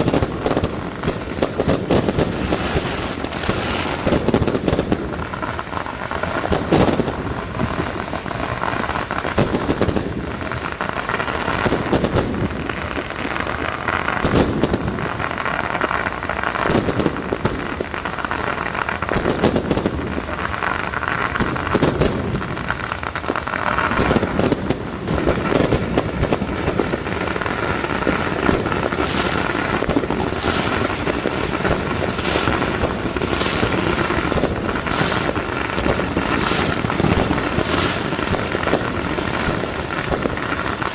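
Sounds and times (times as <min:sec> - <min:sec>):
fireworks banging and crackling: 0:00.0 - 0:40.9.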